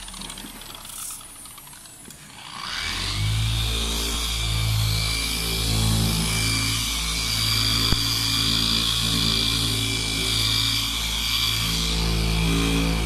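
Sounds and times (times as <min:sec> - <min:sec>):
electric polisher motor whine: 0:00.0 - 0:13.0.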